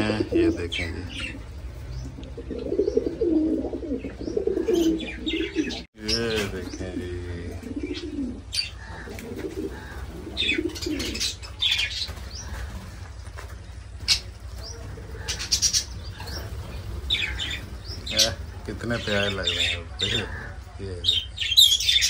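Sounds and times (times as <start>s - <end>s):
pigeons cooing: 0.0s - 22.0s
small birds chirping: 0.0s - 22.0s.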